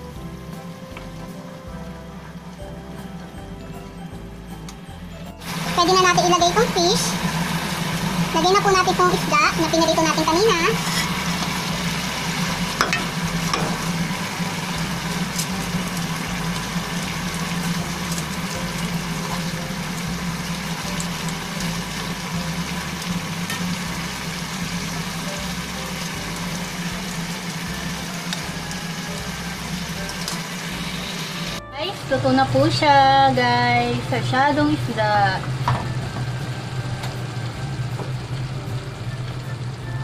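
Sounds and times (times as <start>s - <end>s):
sauce simmering and sizzling: 0.0s - 40.0s
low hum: 6.4s - 40.0s.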